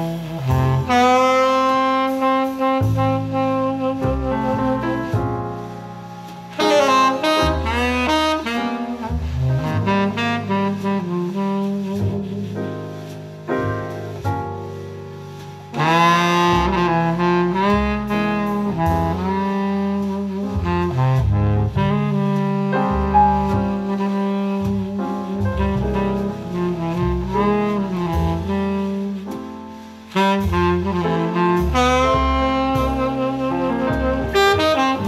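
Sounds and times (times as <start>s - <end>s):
tenor saxophone: 0.0s - 5.7s, 6.3s - 12.5s, 15.7s - 29.3s, 30.1s - 35.0s
bass line: 0.0s - 35.0s.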